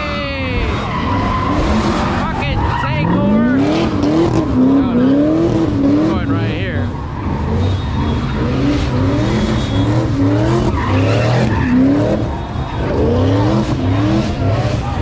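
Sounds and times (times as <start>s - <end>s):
car engine revving hard: 0.0s - 15.0s
tyre screech: 0.0s - 15.0s.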